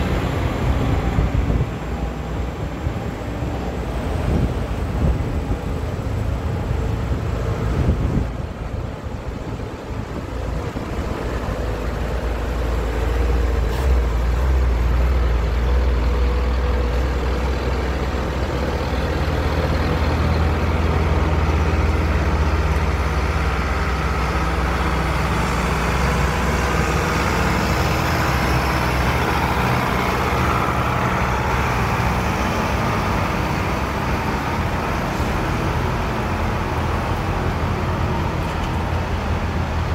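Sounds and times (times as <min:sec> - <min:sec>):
vehicles driving past: 0:00.0 - 0:39.9.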